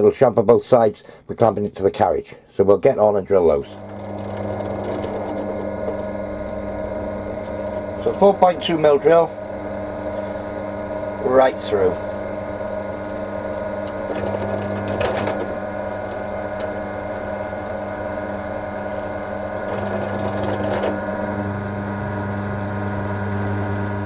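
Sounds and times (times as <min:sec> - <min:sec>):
drill cutting metal ticks: 0:03.6 - 0:24.0
drilling machine motor hum: 0:03.6 - 0:24.0.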